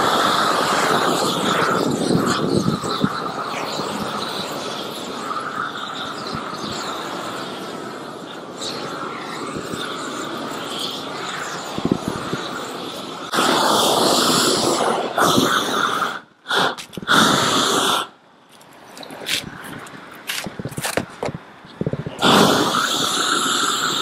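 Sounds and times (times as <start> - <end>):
roofing torch flame burning: 0.0 - 24.0.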